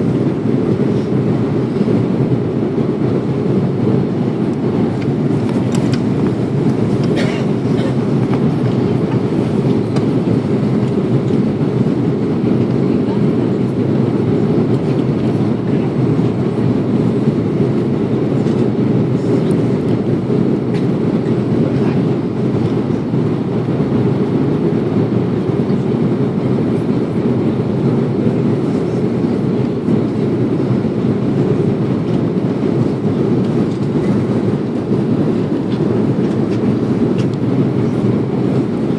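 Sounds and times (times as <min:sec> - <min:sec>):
airliner engine rumble: 0:00.0 - 0:38.9.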